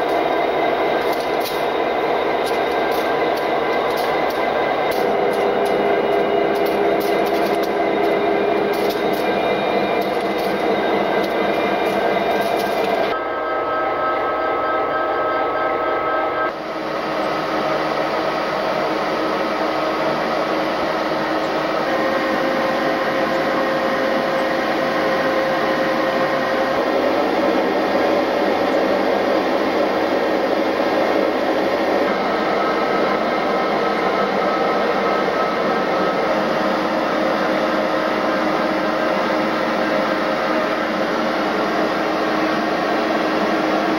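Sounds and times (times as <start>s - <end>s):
diesel locomotive idling: 0.0s - 43.9s.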